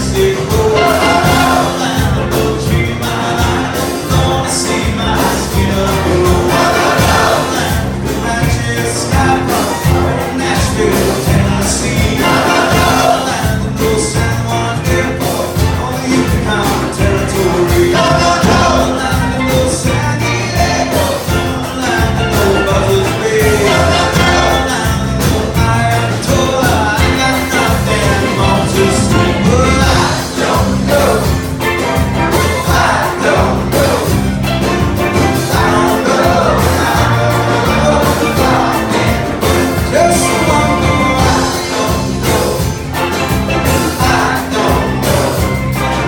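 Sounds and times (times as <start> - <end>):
live band playing up-tempo song: 0.0 - 46.0.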